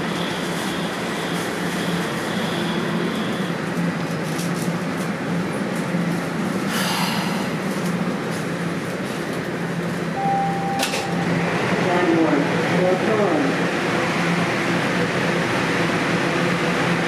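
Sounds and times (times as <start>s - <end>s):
subway car hum and rumble: 0.0s - 17.0s.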